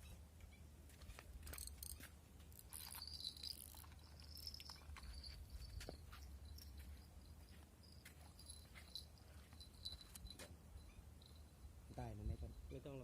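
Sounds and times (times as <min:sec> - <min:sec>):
faint insect chirps: 0:01.5 - 0:13.0.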